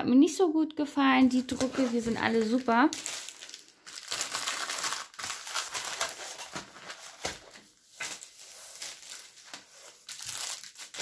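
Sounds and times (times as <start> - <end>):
packaging crinkling: 1.2 - 11.0.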